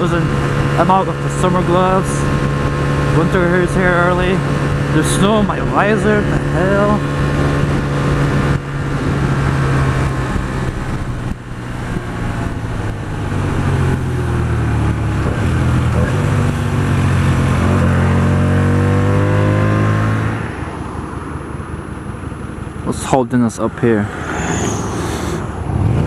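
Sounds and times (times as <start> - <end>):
wind rush: 0.0 - 17.8, 20.2 - 26.0
motorcycle engine running: 0.0 - 23.1.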